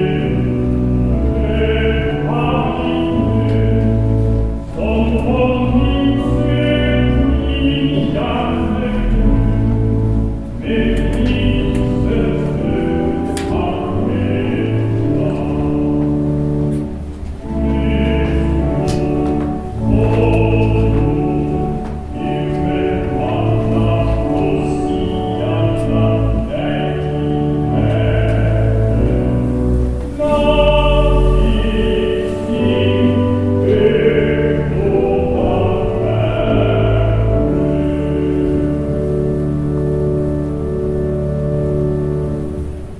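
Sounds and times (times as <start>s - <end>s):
choir singing sustained chords: 0.0s - 42.9s.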